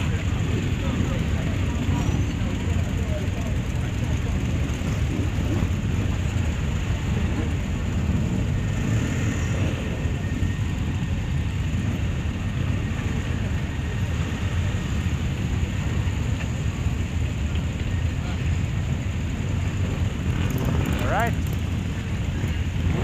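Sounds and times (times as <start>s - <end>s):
motorcycle engine rumbling: 0.0s - 23.0s
motorcycles idling: 0.0s - 23.0s.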